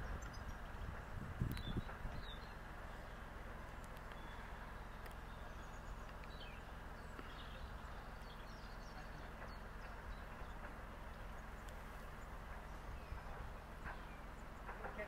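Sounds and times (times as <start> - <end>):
birds chirping: 0.0 - 15.0
boat engine idling: 0.0 - 15.0.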